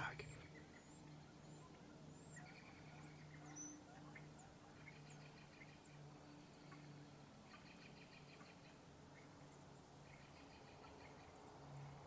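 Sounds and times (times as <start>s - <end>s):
faint low hum: 0.0s - 12.0s
wild birds chirping: 0.0s - 12.0s.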